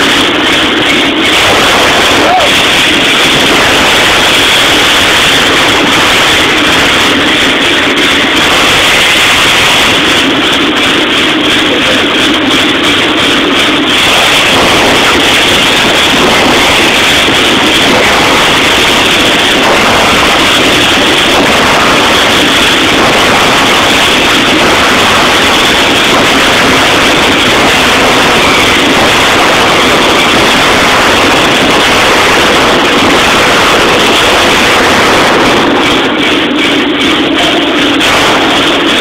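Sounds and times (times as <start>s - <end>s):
forging hammer din: 0.0s - 39.0s.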